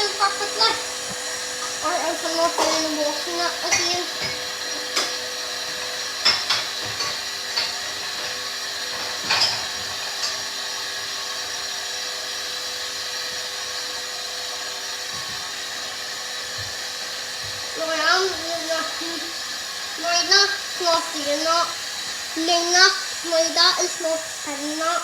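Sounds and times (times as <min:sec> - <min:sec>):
washing machine motor whining: 0:00.0 - 0:25.0.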